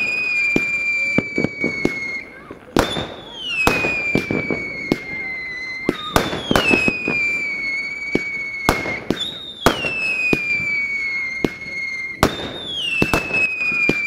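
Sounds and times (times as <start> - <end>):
firework bangs: 0.0 - 14.0
whistling fireworks: 0.0 - 14.0.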